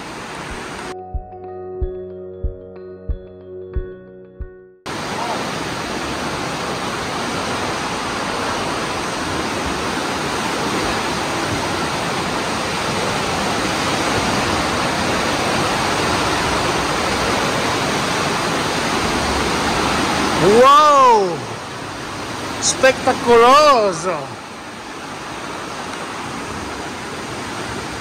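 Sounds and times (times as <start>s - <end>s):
fast-flowing river water: 0.0s - 0.9s, 4.9s - 28.0s.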